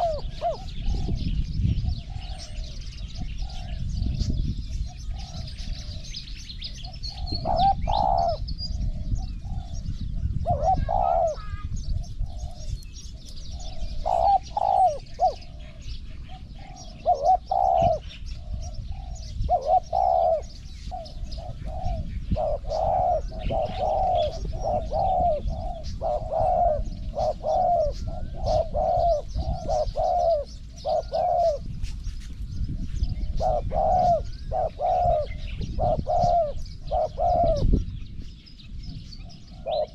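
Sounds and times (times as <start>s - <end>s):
dove cooing: 0.0s - 32.0s, 32.6s - 38.0s, 38.9s - 39.9s
small birds chirping: 0.0s - 39.9s.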